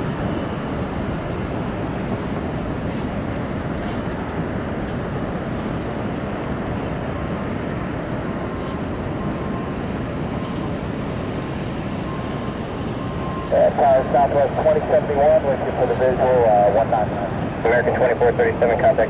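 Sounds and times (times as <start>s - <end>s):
jet engine noise: 0.0s - 19.0s.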